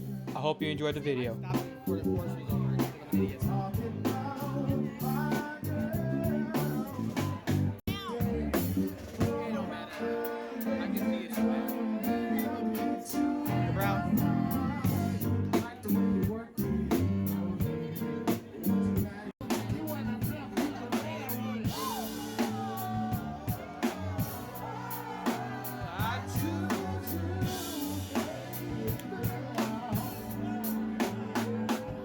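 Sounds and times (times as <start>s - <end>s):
bass: 0.0s - 9.7s, 11.0s - 32.0s
drum kit beat: 0.0s - 32.0s
person singing: 1.4s - 32.0s.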